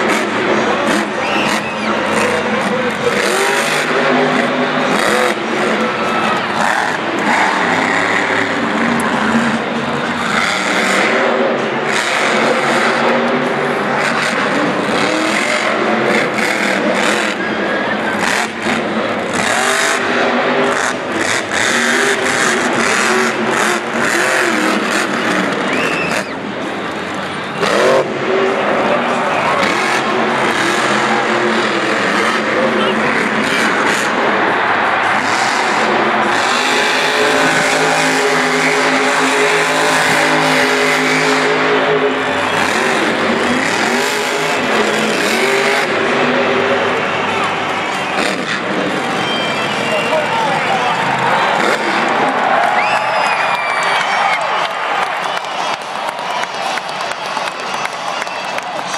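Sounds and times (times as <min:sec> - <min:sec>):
monster truck engine revving: 0:00.0 - 0:58.9.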